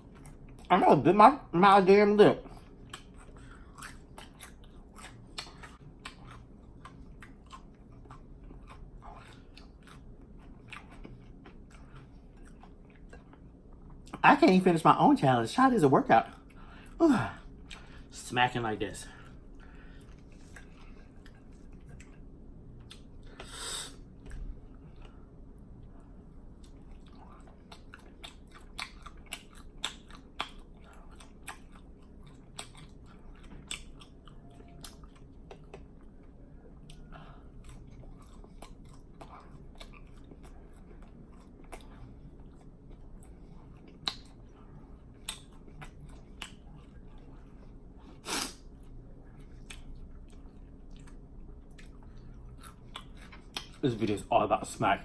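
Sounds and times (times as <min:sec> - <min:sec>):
open-mouth chewing: 0:02.4 - 0:14.2, 0:19.2 - 0:53.8.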